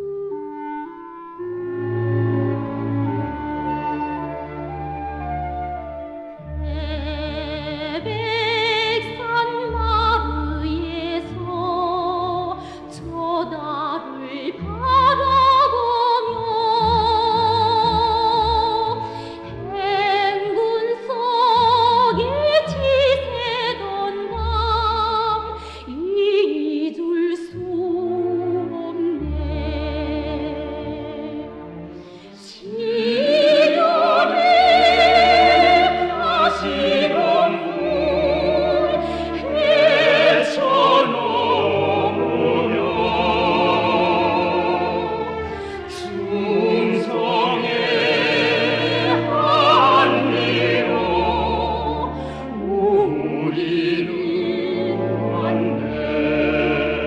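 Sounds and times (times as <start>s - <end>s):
operatic orchestral music: 0.0s - 57.0s.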